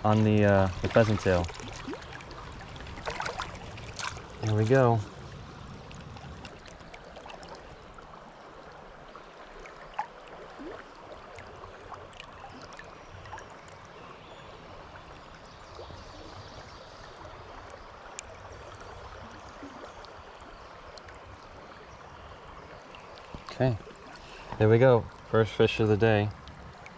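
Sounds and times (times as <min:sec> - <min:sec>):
stream rushing and burbling: 0:00.0 - 0:26.9.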